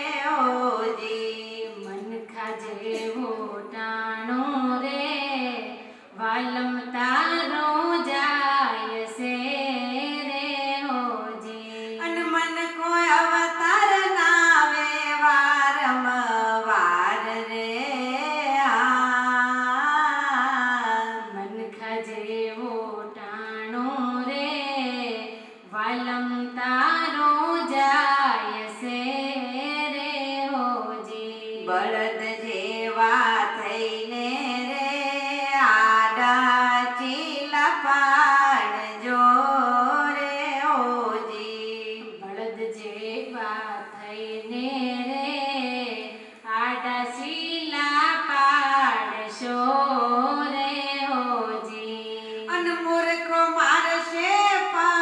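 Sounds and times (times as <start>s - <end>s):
women singing devotional song: 0.0s - 55.0s.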